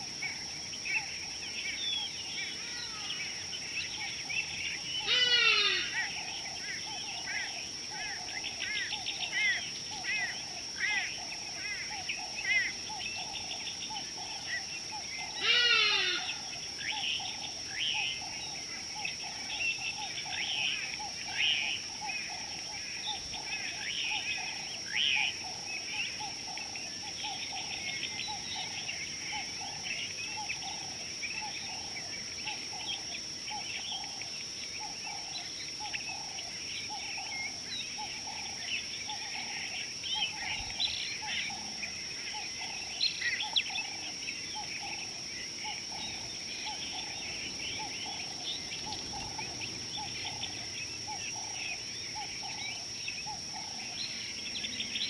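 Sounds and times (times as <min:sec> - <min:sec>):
birds chirping and twittering: 0:00.0 - 0:55.0
low repeated bird call: 0:00.0 - 0:55.0.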